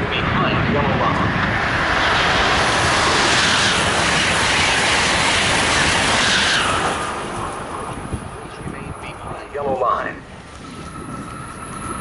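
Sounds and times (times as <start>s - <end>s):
high-speed train passing: 0.0s - 12.0s.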